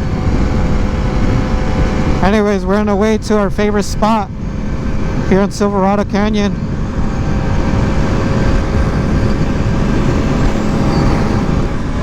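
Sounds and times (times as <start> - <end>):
motorcycle engine drone: 0.0 - 12.0
wind buffeting microphone: 0.0 - 12.0.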